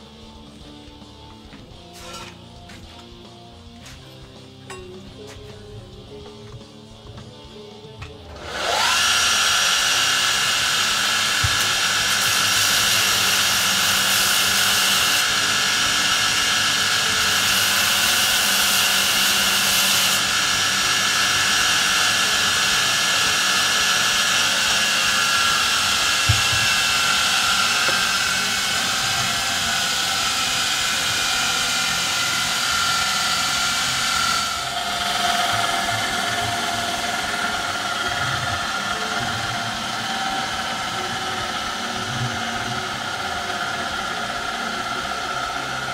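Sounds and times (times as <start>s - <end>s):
power tool motor whining: 7.8s - 45.9s.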